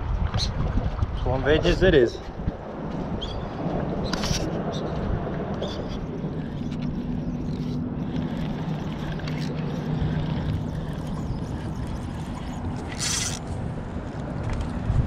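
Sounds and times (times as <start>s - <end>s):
outdoor noise: 0.0s - 15.0s
steady engine drone: 2.6s - 15.0s.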